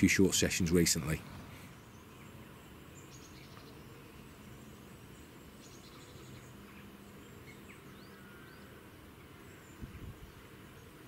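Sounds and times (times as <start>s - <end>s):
distant birds chirping: 0.0s - 11.0s.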